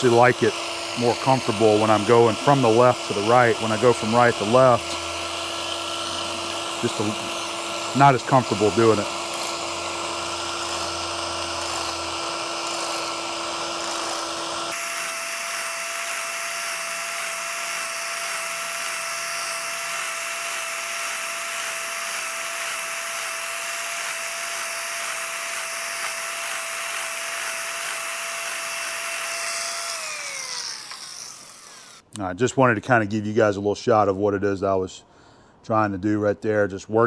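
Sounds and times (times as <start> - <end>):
power scraper scraping metal: 0.0 - 32.0.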